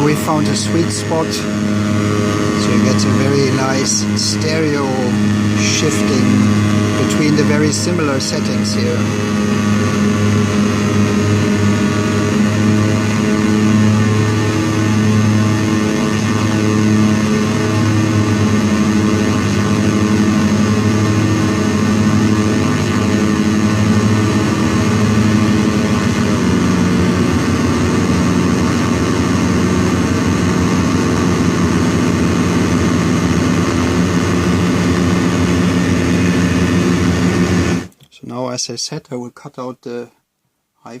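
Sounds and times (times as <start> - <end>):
low buzzing synth drone: 0.0 - 38.0.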